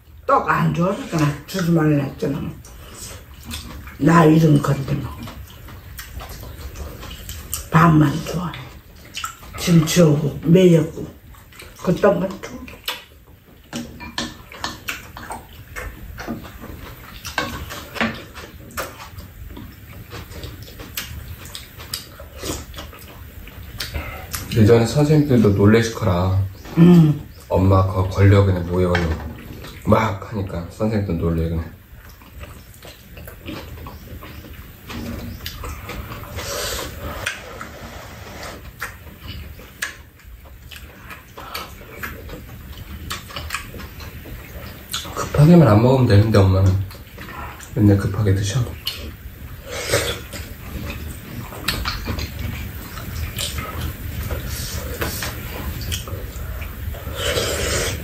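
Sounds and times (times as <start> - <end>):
people chewing: 0.0 - 58.0.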